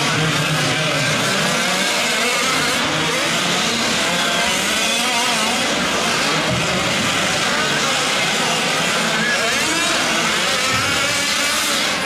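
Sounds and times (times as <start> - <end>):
small two-stroke engines buzzing: 0.0 - 12.0.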